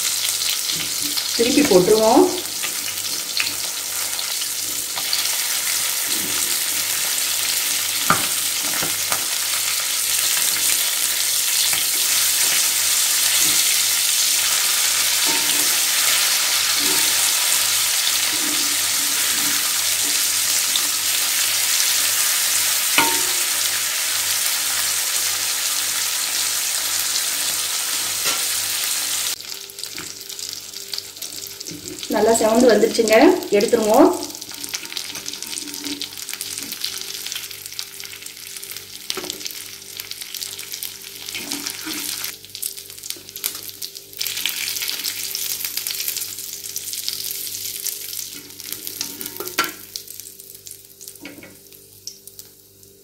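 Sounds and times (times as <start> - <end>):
fish sizzling in oil: 0.0 - 53.0.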